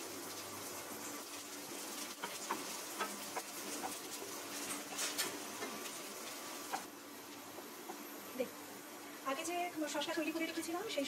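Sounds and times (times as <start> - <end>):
garlic sizzling in oil: 0.0 - 11.0.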